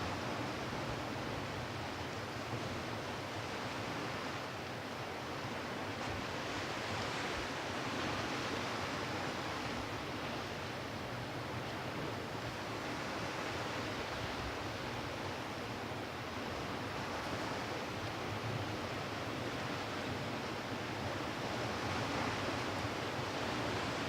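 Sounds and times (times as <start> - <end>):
waves washing onto a beach: 0.0 - 24.0.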